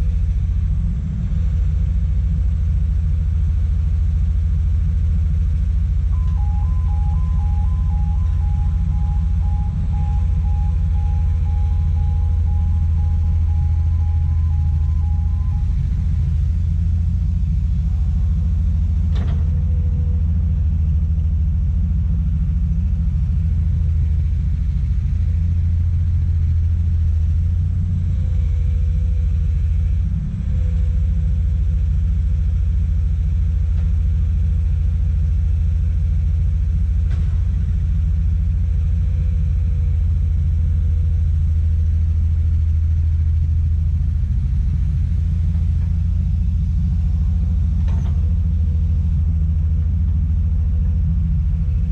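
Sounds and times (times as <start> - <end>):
diesel excavator engine rumbling: 0.0 - 51.9.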